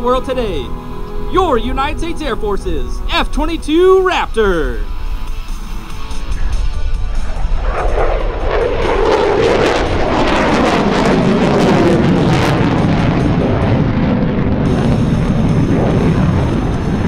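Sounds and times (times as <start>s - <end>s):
fighter jet flying past: 0.5s - 17.0s.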